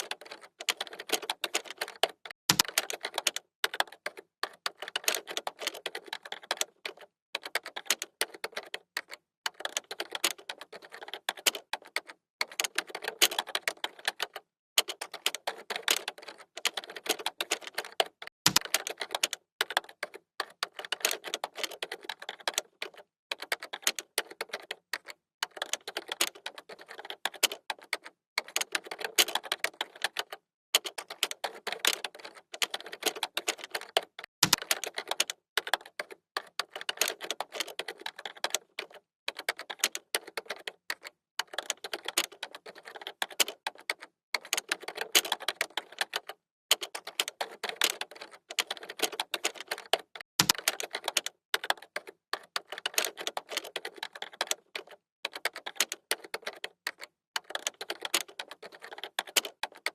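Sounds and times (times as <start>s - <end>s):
keyboard typing: 0.0s - 59.9s.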